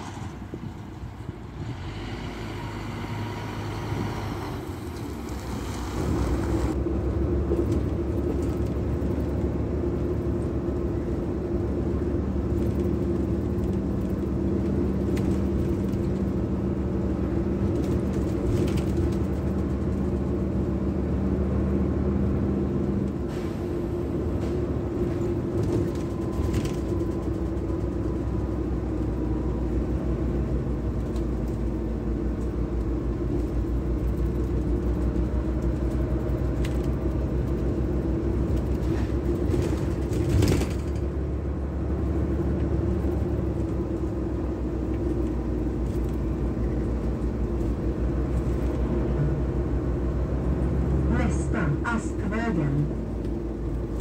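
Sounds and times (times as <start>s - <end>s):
bus engine and road drone: 0.0s - 54.0s.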